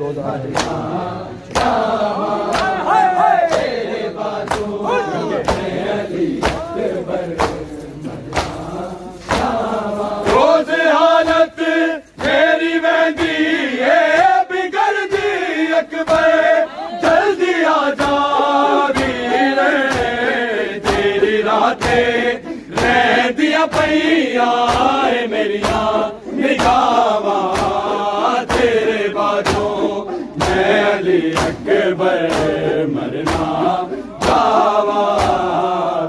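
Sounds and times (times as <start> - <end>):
men chanting a lament: 0.0 - 36.0
hand slaps on bare chests: 0.5 - 35.8.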